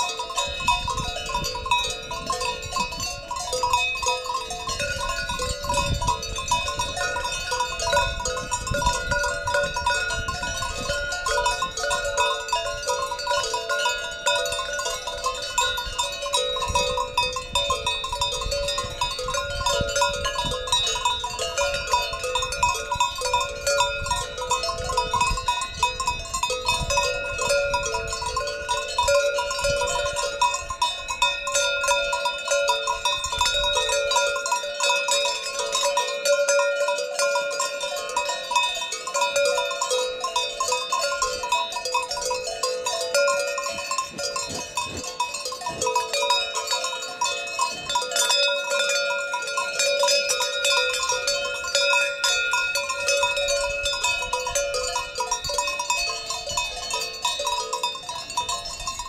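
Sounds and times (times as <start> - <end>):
cowbells clanking: 0.0 - 59.0.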